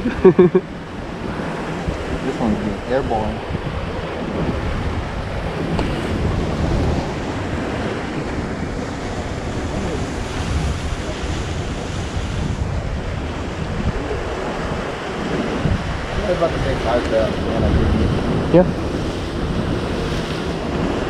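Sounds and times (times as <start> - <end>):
surf washing against rocks: 0.0 - 21.0
wind buffeting microphone: 0.0 - 21.0.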